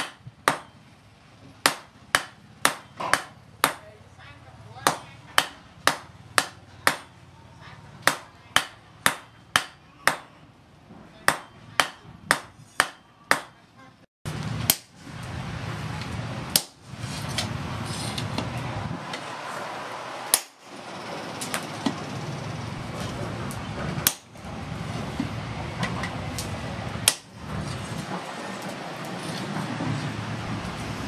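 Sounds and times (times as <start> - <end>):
background noise: 0.0 - 31.0.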